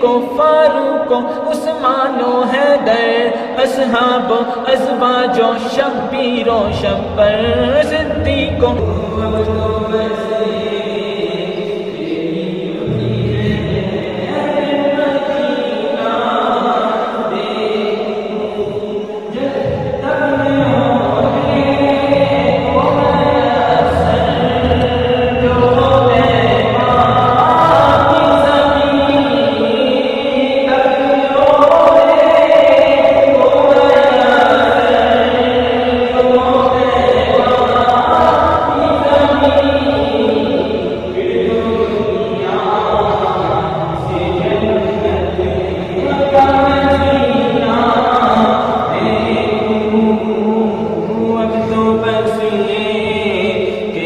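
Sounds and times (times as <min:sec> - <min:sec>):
chorus singing in harmony: 0:00.0 - 0:54.0
devotional choir chanting: 0:00.0 - 0:54.0.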